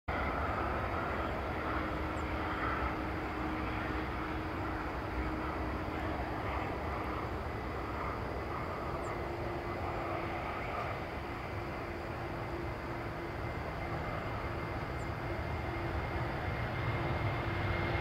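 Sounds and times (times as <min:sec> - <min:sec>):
distant jet engines rumbling: 0:00.1 - 0:18.0
faint steady hum: 0:00.1 - 0:18.0.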